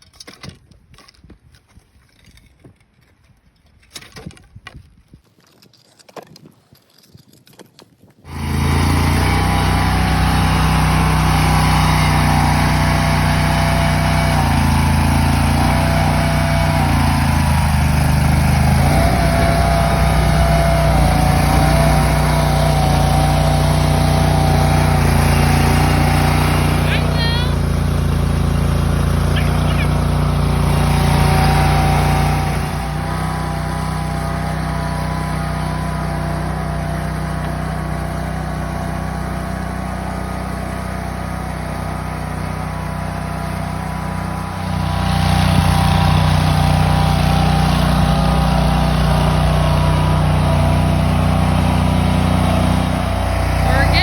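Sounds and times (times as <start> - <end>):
loud engine running: 8.3 - 54.0.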